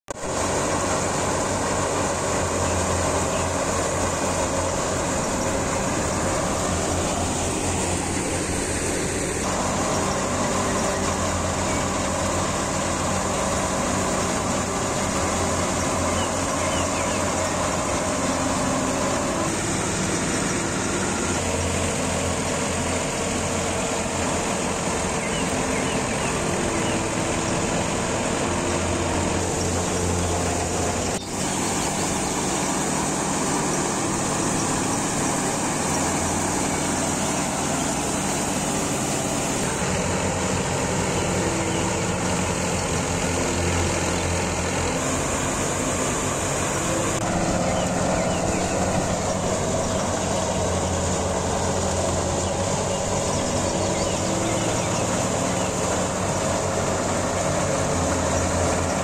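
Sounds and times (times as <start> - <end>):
thresher mechanical drone: 0.1 - 59.0
tractor diesel engine running: 0.1 - 59.0.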